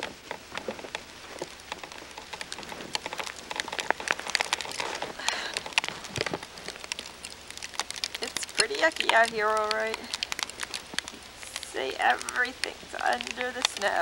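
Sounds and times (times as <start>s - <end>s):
snow pelting camcorder: 0.0s - 14.0s
steady wind hiss: 0.0s - 14.0s.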